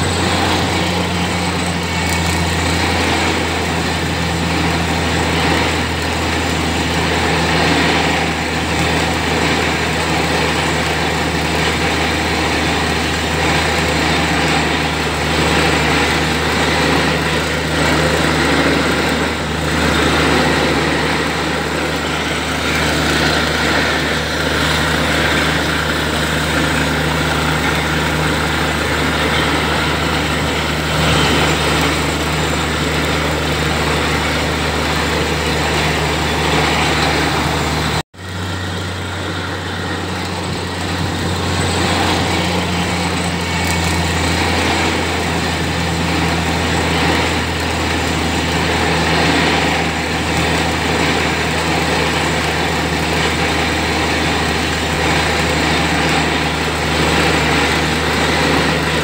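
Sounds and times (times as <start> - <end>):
drilling rig engine drone: 0.0 - 59.0.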